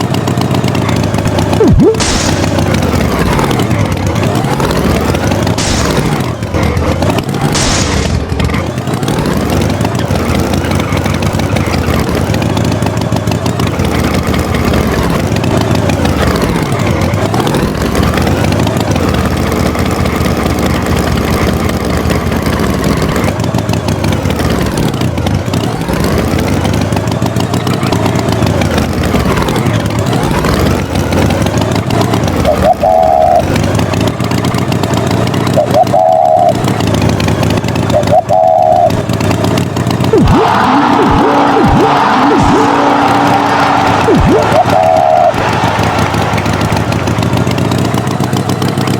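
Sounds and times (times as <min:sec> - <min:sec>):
vehicle engine revving: 0:00.0 - 0:48.9.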